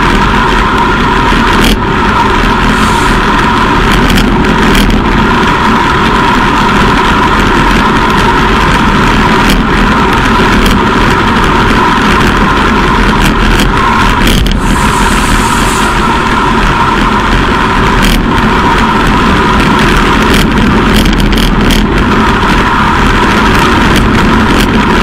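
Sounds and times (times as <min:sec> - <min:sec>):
bike tyres humming on asphalt: 0:00.0 - 0:25.0
wind rushing over microphone: 0:00.0 - 0:25.0.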